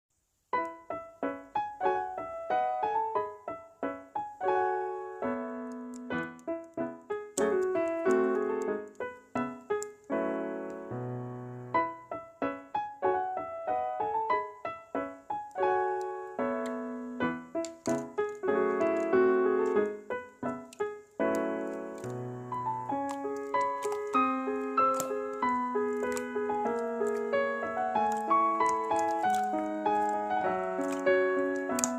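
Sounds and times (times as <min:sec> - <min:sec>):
piano music: 0:00.5 - 0:31.9.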